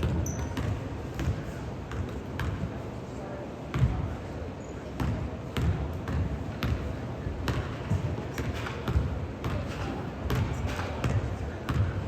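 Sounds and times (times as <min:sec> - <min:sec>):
basketball bouncing on gym floor: 0:00.0 - 0:02.7, 0:03.7 - 0:04.2, 0:05.0 - 0:12.0.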